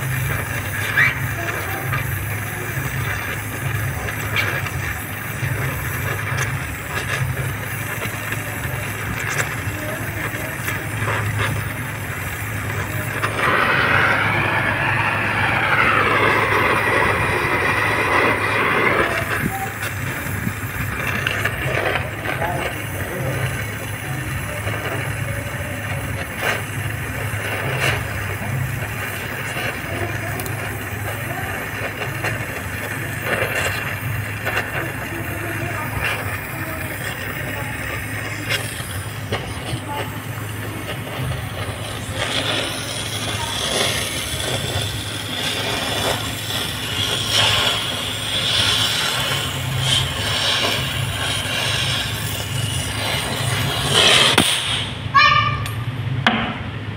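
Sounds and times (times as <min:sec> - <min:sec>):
low rumble: 0:00.0 - 0:48.0
welding torch flame hissing: 0:00.0 - 0:55.8
sharp cracks: 0:00.0 - 0:56.6
low hum: 0:00.0 - 0:56.9.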